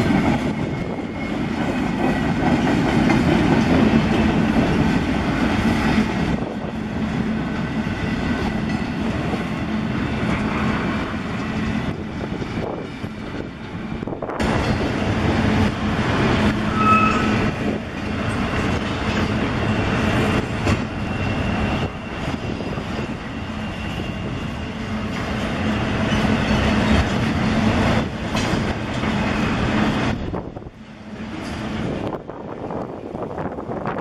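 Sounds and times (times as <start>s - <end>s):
steel wheels rumbling on rail: 0.0s - 34.0s.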